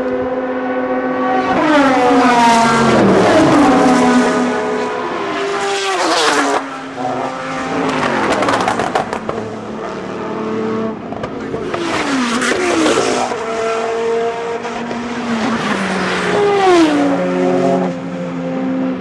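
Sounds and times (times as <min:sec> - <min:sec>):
race cars passing: 0:00.0 - 0:19.0.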